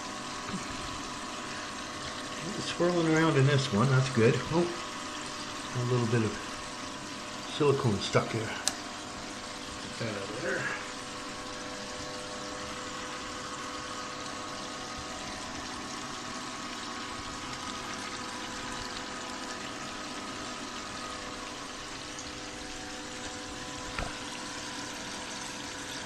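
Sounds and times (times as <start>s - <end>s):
steady hum: 0.0s - 26.0s
water rushing through sluice box: 0.0s - 26.0s.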